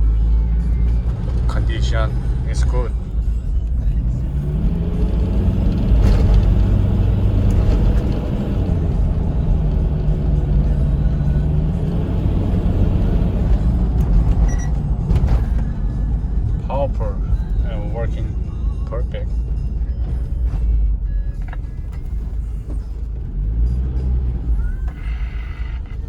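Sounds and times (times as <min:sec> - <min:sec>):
engine drone: 0:00.0 - 0:26.0
road rumble: 0:00.0 - 0:26.0.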